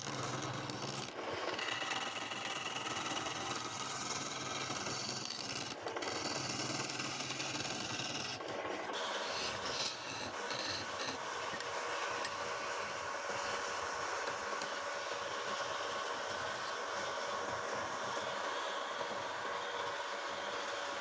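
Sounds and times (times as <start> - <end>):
wood lathe running: 0.0 - 8.4, 9.0 - 21.0.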